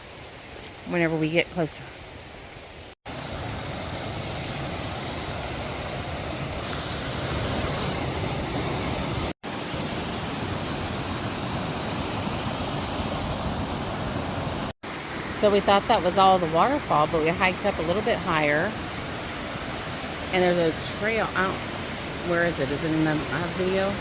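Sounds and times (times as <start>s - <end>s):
waterfall rushing: 3.1s - 24.0s.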